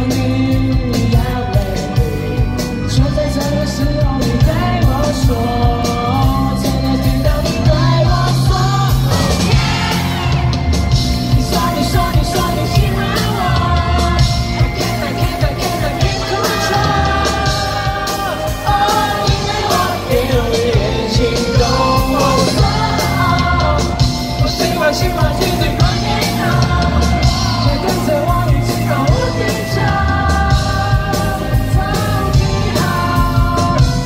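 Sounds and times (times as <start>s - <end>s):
person singing: 0.0s - 34.0s
pop-rock band playing: 0.0s - 34.0s.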